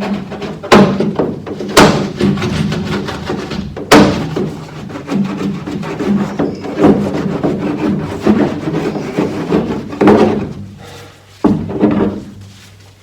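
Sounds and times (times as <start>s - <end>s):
thumps on sheet metal: 0.0s - 10.8s, 11.4s - 12.4s
rubbing: 0.0s - 13.0s.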